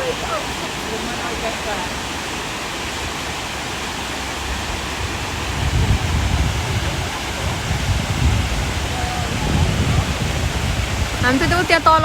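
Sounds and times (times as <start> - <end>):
waterfall rushing: 0.0 - 12.0
wind buffeting the microphone: 0.0 - 12.0.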